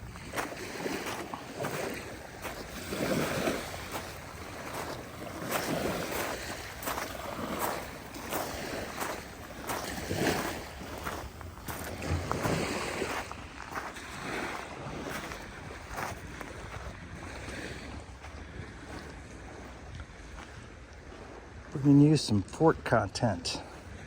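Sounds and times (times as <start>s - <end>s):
small waves washing on beach: 0.0s - 24.0s.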